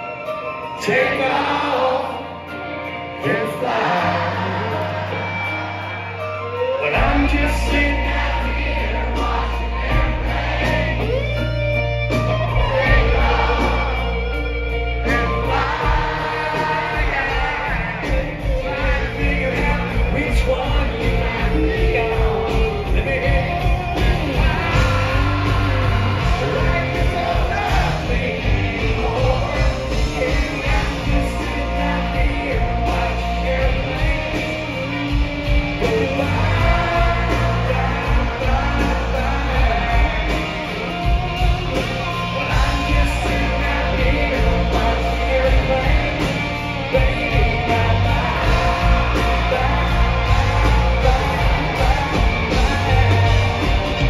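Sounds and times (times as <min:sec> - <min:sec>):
live country band: 0:00.0 - 0:54.0
man singing lead: 0:00.0 - 0:54.0.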